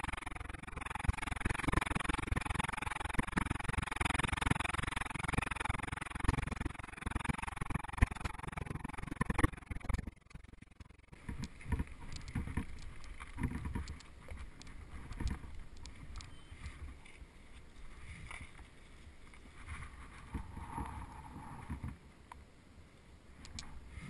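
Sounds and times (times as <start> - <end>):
stones clicking and bike rattling: 0.0 - 22.0.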